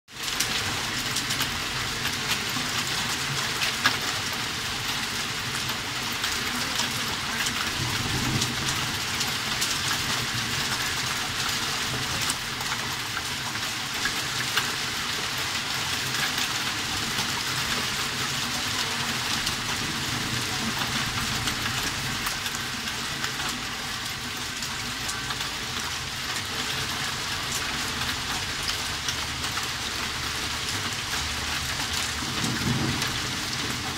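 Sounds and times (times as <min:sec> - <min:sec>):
hail and rain on lawn: 0:00.1 - 0:33.9.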